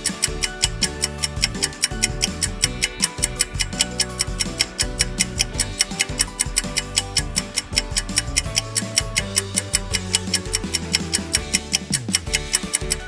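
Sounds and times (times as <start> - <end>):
clock-like ticking: 0.0 - 13.0.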